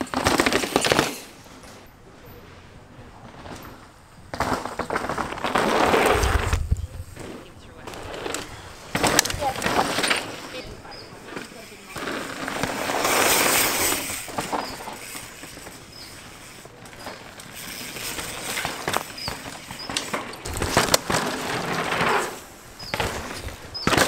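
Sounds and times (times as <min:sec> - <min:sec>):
bike tyres crunching on dirt: 0:00.0 - 0:24.0
bike knocks: 0:03.3 - 0:24.0.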